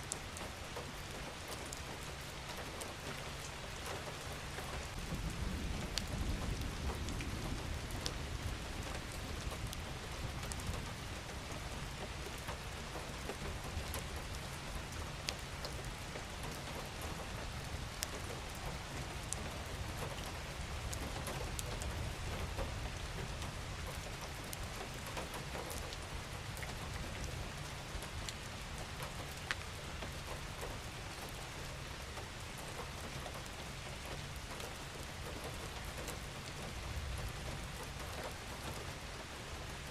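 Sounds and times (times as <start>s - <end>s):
raindrops ticking: 0.0s - 39.9s.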